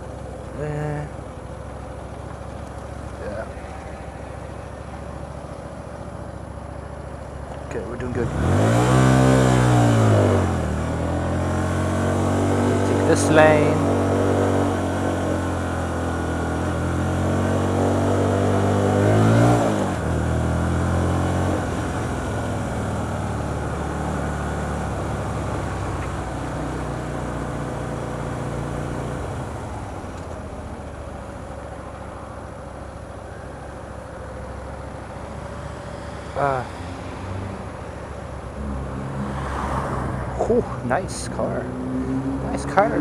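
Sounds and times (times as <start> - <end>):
motorcycle engine revving: 7.8 - 33.1, 33.9 - 43.0.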